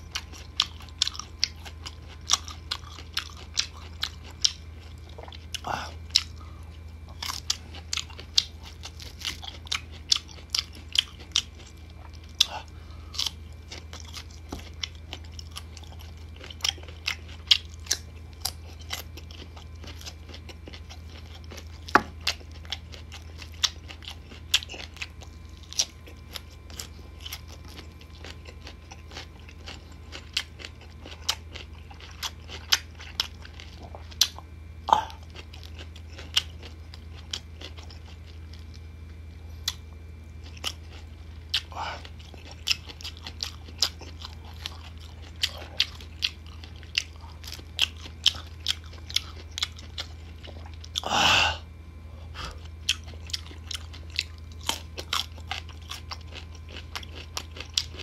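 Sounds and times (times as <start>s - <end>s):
crunching and chewing: 0.0s - 58.0s
steady low hum: 0.0s - 58.0s.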